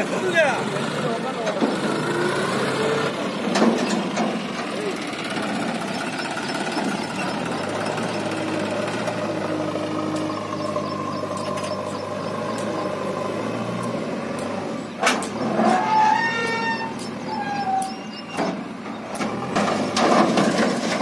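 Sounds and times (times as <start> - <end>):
backhoe diesel engine: 0.0 - 21.0.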